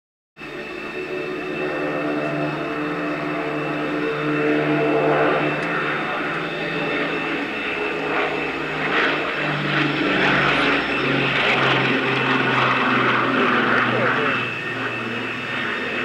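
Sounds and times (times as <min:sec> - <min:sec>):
propeller plane engines droning: 0:00.4 - 0:16.0.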